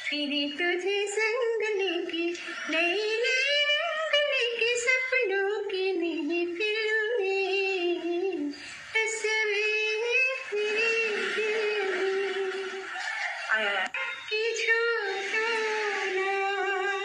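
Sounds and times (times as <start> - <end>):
woman singing unaccompanied: 0.0 - 12.9, 13.5 - 17.0.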